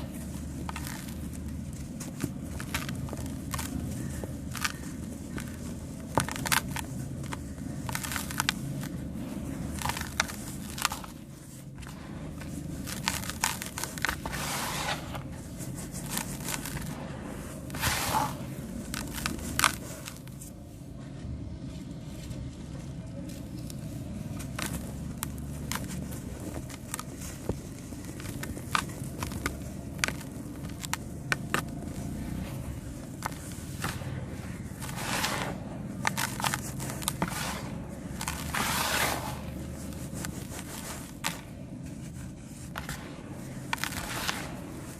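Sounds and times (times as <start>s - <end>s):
sand-cement crushing and cracking: 0.0s - 20.6s, 22.1s - 44.9s
low rumble: 0.0s - 44.9s.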